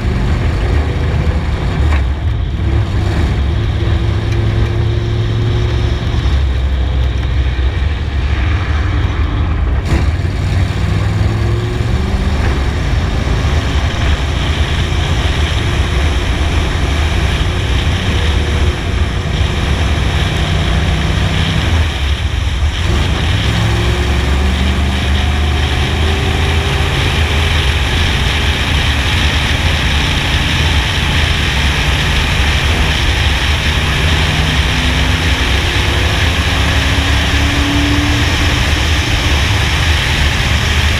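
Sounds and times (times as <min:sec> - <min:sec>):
heavy wind rumble: 0:00.0 - 0:40.9
race car engine: 0:00.0 - 0:40.9.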